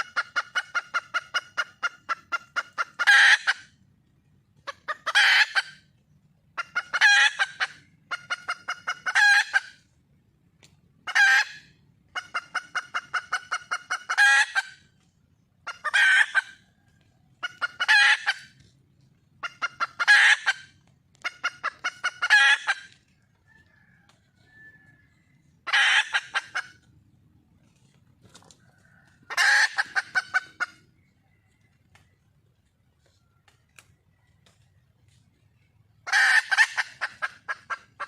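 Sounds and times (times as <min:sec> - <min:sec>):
junglefowl hen cackling: 0:00.0 - 0:38.0.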